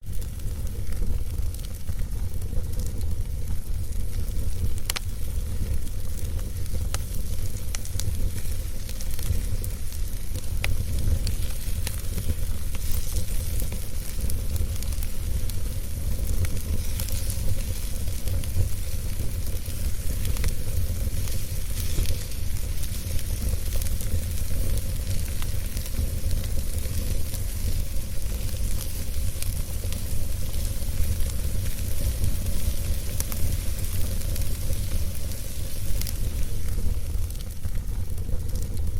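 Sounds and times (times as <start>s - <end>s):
low rumble and hiss: 0.0s - 38.9s
wood fire crackling: 0.0s - 38.9s.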